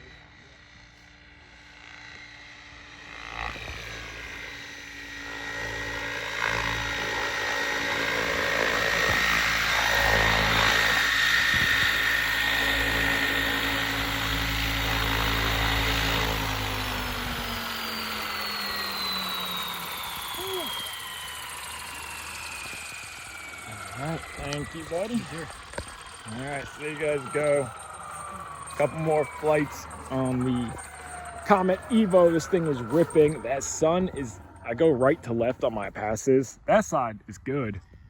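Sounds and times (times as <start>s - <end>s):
remote control helicopter rotor whine: 0.0s - 36.8s.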